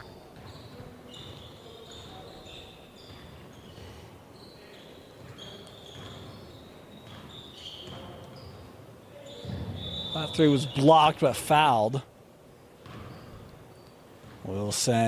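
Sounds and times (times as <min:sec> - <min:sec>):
shoes squeaking on hardwood: 0:00.0 - 0:10.6, 0:12.8 - 0:14.4
murmur of gym: 0:00.0 - 0:15.0.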